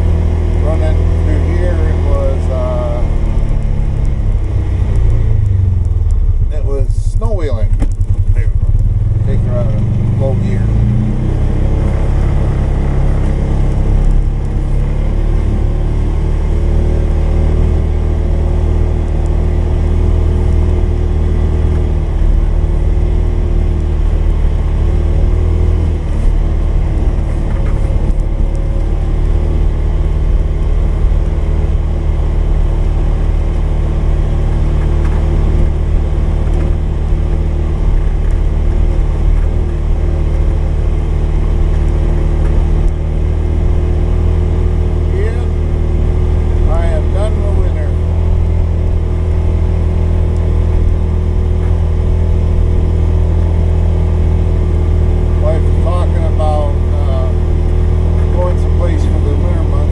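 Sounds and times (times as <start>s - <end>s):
engine low hum: 0.0s - 59.9s.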